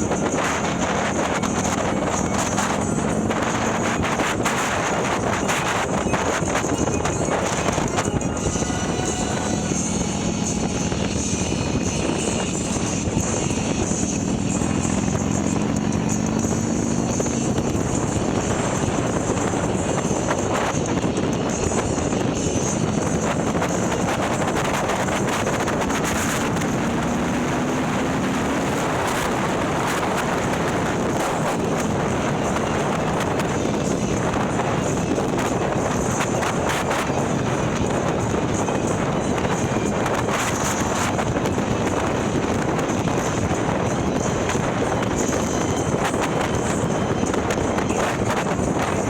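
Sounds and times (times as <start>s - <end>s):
motorcycle engine revving: 0.0s - 49.0s
wind rush: 0.0s - 49.0s.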